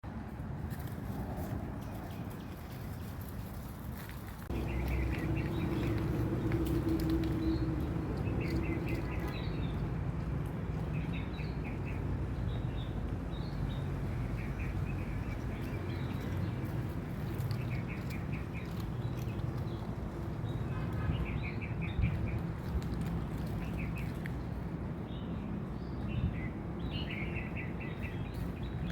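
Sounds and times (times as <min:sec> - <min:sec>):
small birds chirping: 0:04.0 - 0:28.9.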